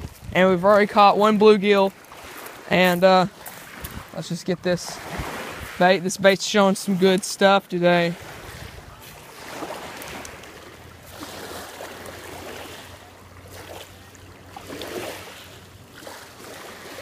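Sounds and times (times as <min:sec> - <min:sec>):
small waves lapping at shore: 0:00.0 - 0:17.0.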